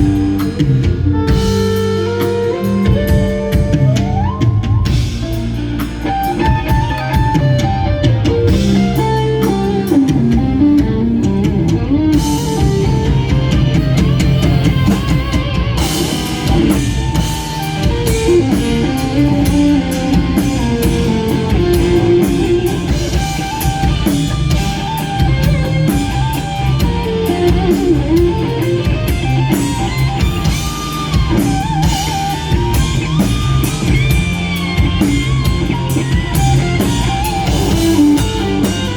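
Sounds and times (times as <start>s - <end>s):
bass guitar: 0.0s - 38.9s
drum kit with cymbals: 0.0s - 38.9s
lead electric guitar melody: 0.0s - 38.9s.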